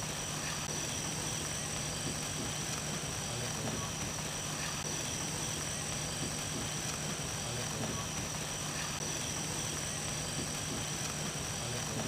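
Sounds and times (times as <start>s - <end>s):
sparklers fizzing: 0.0s - 12.0s.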